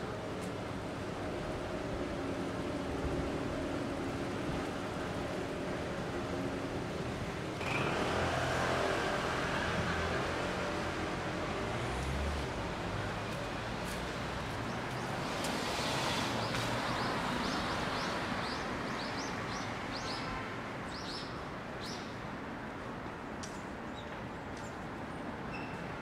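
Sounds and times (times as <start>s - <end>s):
city traffic noise: 0.0s - 26.0s.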